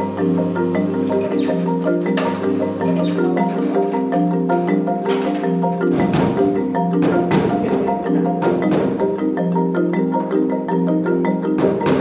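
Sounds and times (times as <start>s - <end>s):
rhythmic struck pitched notes: 0.0s - 12.0s.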